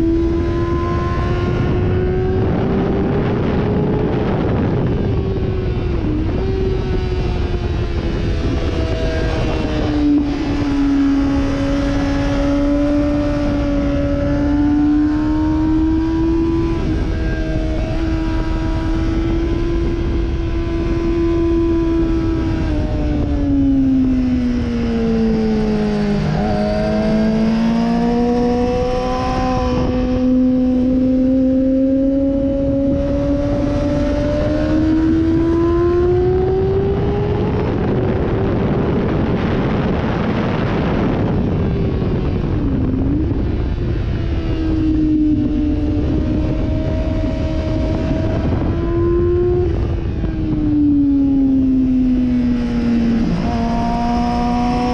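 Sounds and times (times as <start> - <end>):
motorcycle engine revving: 0.0 - 54.9
wind noise: 0.0 - 54.9.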